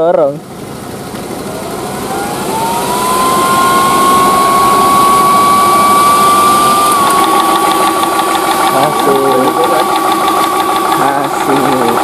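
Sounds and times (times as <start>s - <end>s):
air compressor motor whine: 0.0s - 12.0s.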